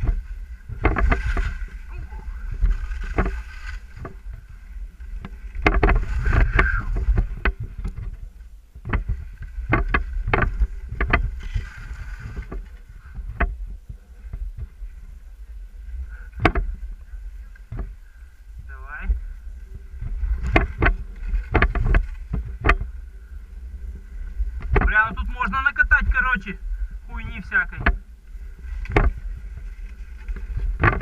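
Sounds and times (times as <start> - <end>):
skis and poles in snow: 0.0 - 31.0
wind buffeting microphone: 0.0 - 31.0.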